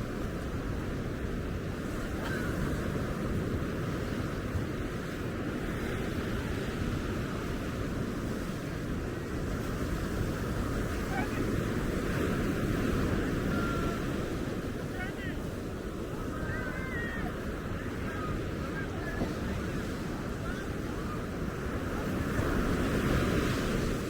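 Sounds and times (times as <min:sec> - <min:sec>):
ocean surf breaking on beach: 0:00.0 - 0:24.0.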